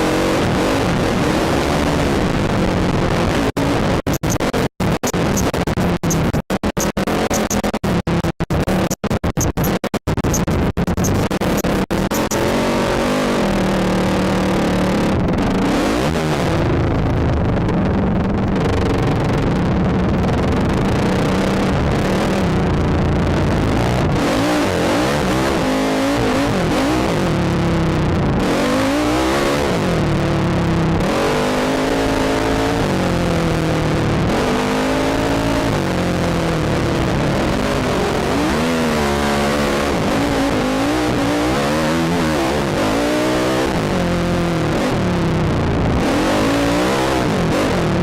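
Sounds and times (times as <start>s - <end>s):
atv engine revving: 0.0s - 7.6s, 11.0s - 17.6s, 20.1s - 48.0s
steady rush of noise: 0.0s - 48.0s.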